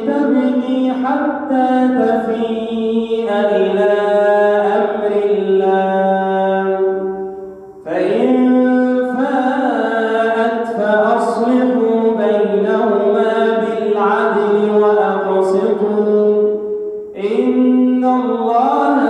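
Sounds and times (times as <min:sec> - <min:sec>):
man chanting melodically: 0:00.0 - 0:19.0.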